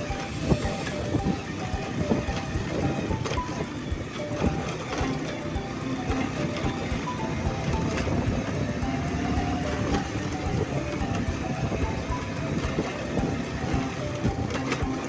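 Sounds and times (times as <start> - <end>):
background music: 0.0 - 15.0
motorcycle engine: 0.0 - 15.0.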